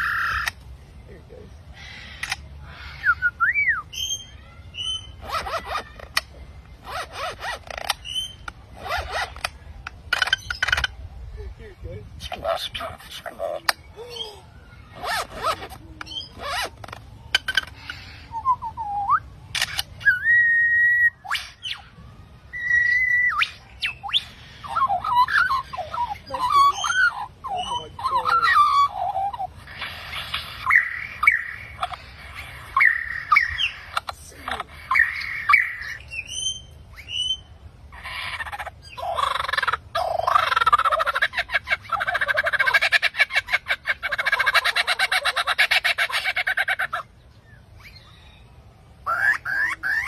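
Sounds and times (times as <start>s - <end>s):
bird singing: 0.0s - 50.0s.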